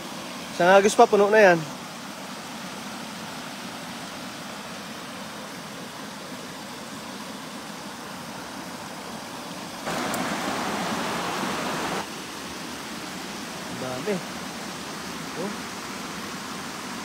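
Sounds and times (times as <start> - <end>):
closer rush of water: 0.0 - 17.0
river water pouring over weir: 0.0 - 17.0.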